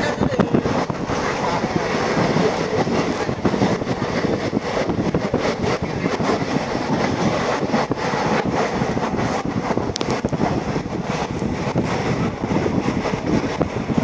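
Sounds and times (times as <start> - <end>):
train rumble: 0.0 - 14.0
wheels clattering on track: 0.0 - 14.0.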